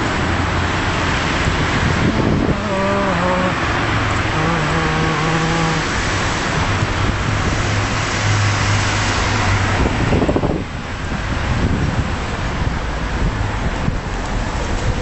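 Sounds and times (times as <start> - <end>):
car engine hum: 0.0 - 15.0
rushing street noise: 0.0 - 15.0.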